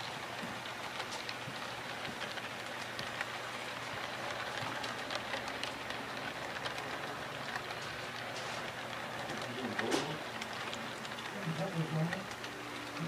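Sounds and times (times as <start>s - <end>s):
model train cars rolling: 0.0s - 13.0s.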